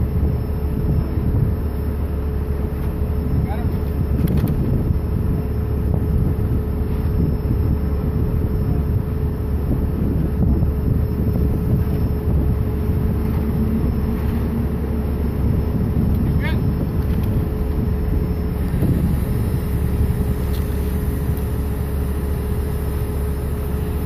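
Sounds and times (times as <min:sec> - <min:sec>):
heavy engine running: 0:00.0 - 0:24.0
wind buffeting microphone: 0:00.0 - 0:24.0.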